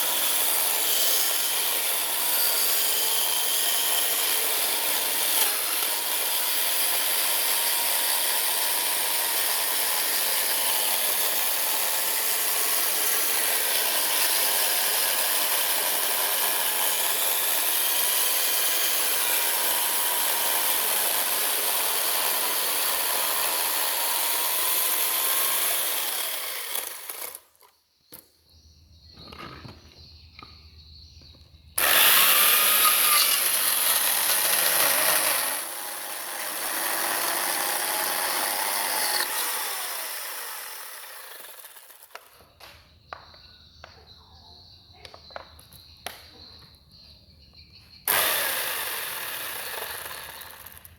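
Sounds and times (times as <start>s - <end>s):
chainsaw cutting wood: 0.0s - 27.7s, 31.8s - 42.3s, 48.0s - 50.9s.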